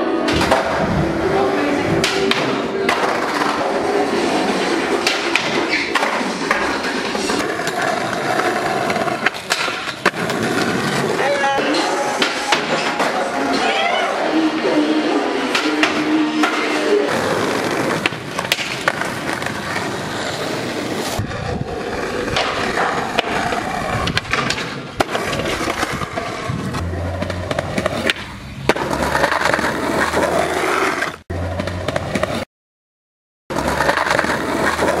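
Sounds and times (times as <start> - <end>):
skateboard wheels rolling on concrete: 0.0 - 32.5, 33.5 - 35.0
skateboard clacks: 1.9 - 4.0, 4.8 - 13.8, 15.5 - 21.3, 22.0 - 32.4, 33.5 - 35.0.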